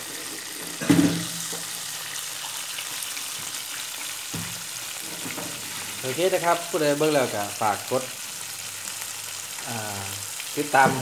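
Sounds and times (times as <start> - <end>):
pork sizzling in oil: 0.0 - 11.0.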